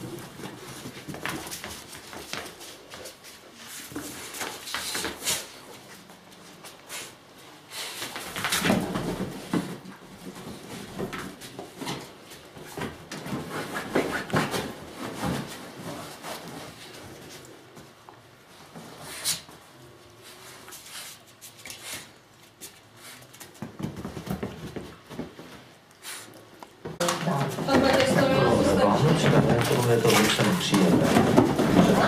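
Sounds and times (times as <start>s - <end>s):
dogs scuffling and thumping: 0.0s - 26.2s, 26.8s - 32.0s.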